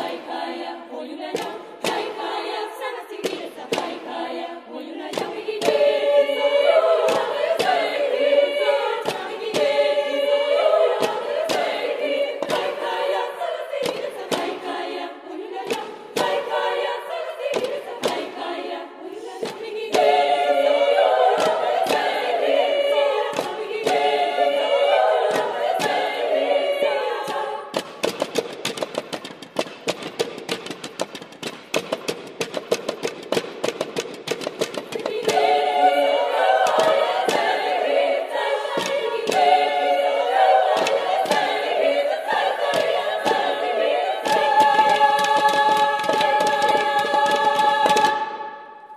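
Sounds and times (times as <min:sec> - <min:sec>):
singers clicking and tapping: 0:00.0 - 0:18.7, 0:19.4 - 0:48.4
women's choir singing: 0:00.0 - 0:28.8, 0:34.0 - 0:48.9.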